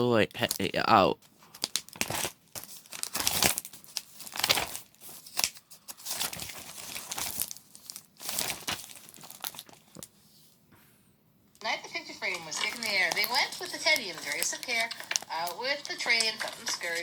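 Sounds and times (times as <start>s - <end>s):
crinkling and rustling: 0.3s - 10.6s, 11.5s - 17.0s.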